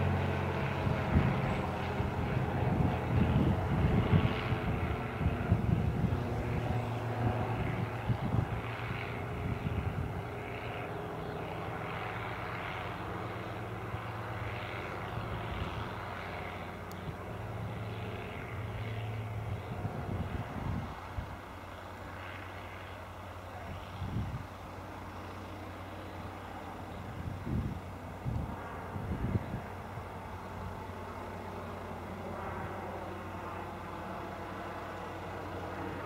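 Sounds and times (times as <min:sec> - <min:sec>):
propeller plane droning overhead: 0:00.0 - 0:36.0.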